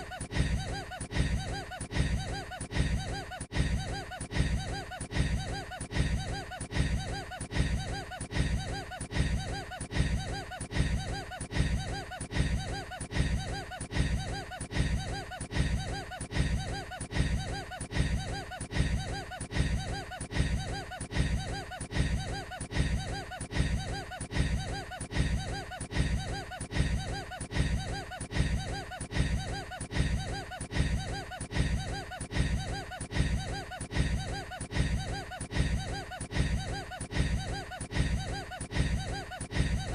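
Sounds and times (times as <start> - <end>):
man laughing: 0.0 - 39.9.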